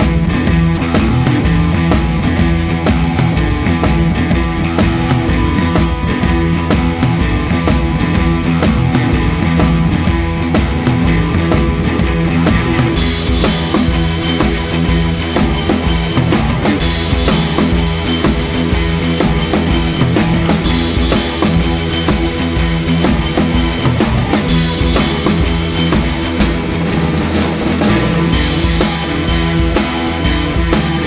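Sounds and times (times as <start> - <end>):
rock music with drums: 0.0 - 31.0.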